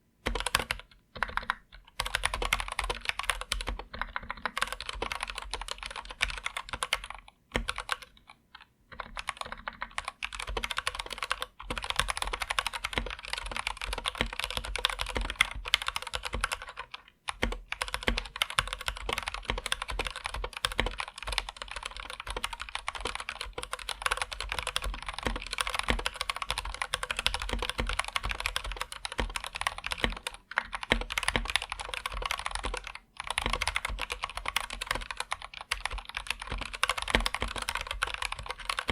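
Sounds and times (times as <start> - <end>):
typing on mechanical keyboard: 0.2 - 38.9.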